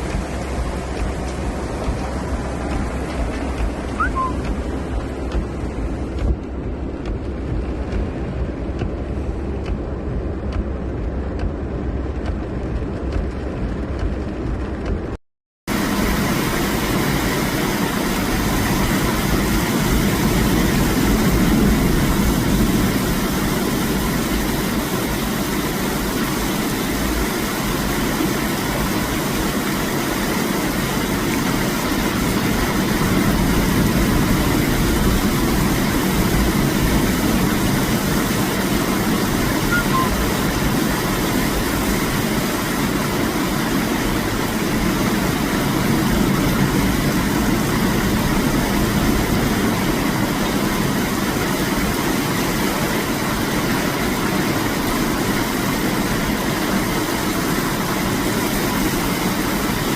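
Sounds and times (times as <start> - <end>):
torrential rain hissing: 0.0 - 14.8, 15.7 - 59.9.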